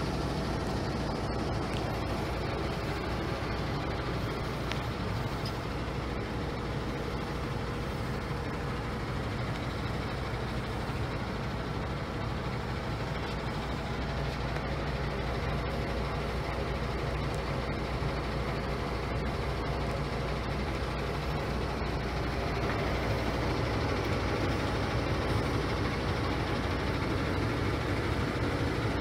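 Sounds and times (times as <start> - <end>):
truck diesel engine idling: 0.0 - 29.0.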